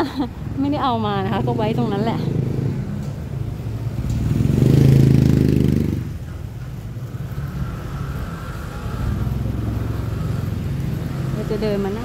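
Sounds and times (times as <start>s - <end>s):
traffic hum: 0.0s - 12.0s
motorcycle engine passing: 0.8s - 12.0s.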